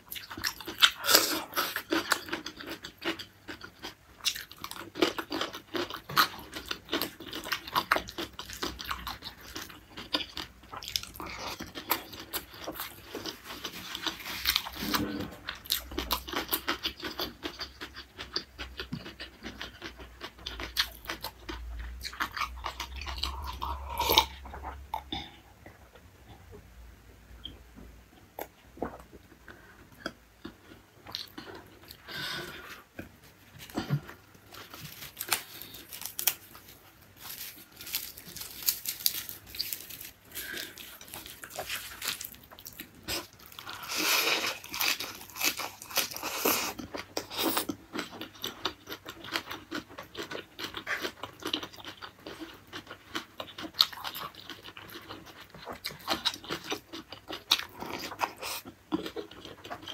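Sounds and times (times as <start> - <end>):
chewing and crunching food: 0.0 - 26.0, 28.4 - 59.9.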